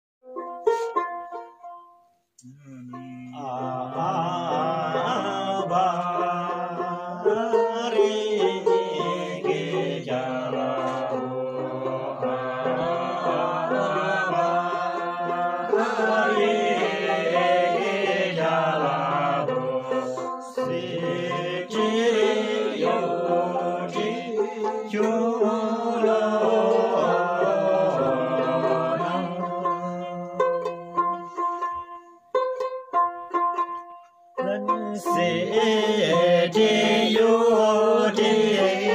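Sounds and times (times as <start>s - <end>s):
plucked lute strumming: 0.2s - 2.1s, 2.9s - 35.9s
men singing a folk song: 2.4s - 32.2s, 34.4s - 38.9s.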